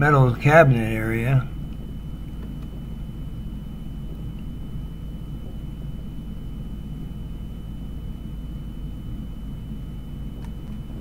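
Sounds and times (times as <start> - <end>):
faint high-pitched whine: 0.0 - 11.0
low background rumble: 0.0 - 11.0.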